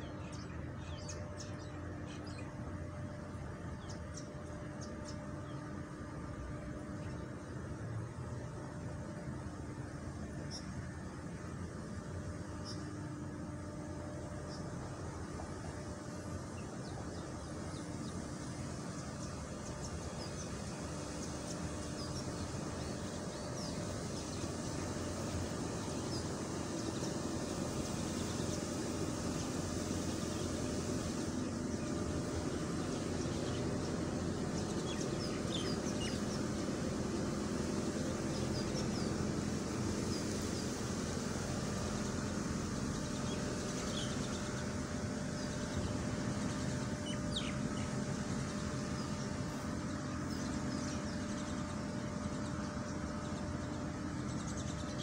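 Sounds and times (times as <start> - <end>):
small birds chirping: 0.0 - 7.5, 14.4 - 55.0.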